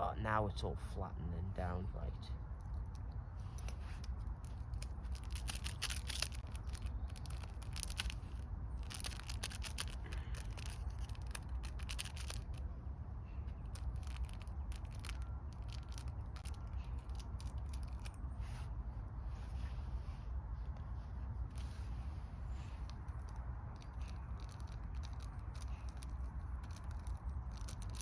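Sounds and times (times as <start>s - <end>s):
crackling and scraping: 2.4s - 28.0s.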